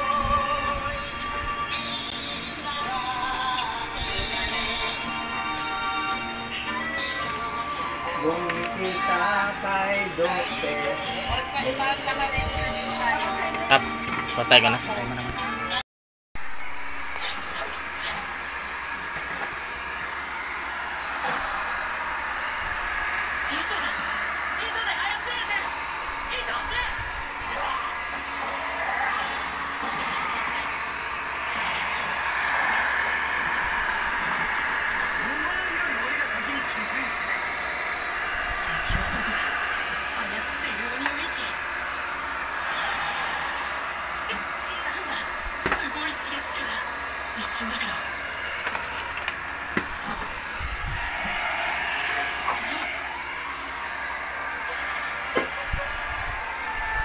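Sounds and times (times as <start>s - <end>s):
heat gun blowing: 0.0s - 14.7s, 16.4s - 57.0s.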